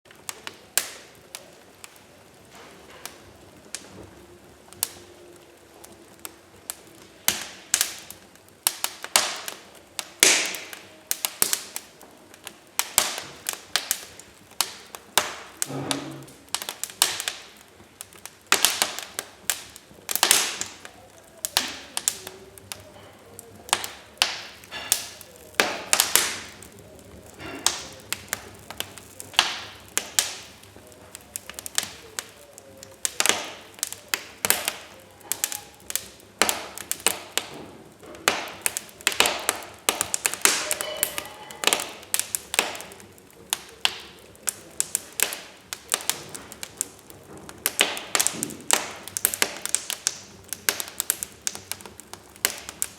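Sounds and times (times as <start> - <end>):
wood fire crackling: 0.0 - 52.9
faint steady hiss: 0.1 - 52.9.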